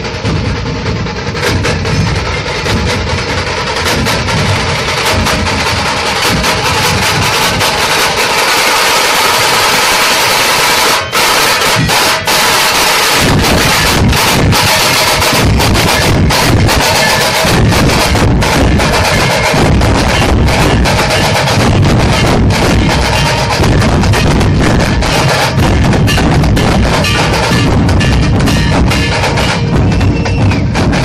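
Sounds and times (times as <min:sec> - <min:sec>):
dhol drums beating: 0:00.0 - 0:31.0.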